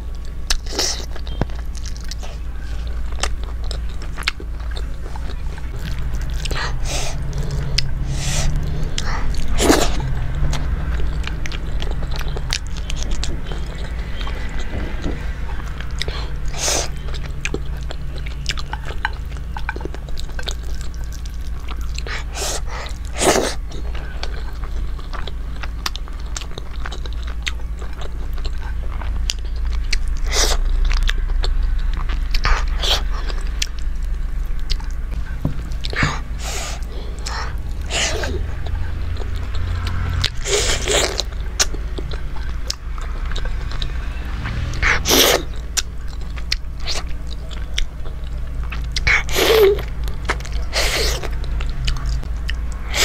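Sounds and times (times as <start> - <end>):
chewing food: 0.0 - 53.0
steady low hum: 0.0 - 53.0.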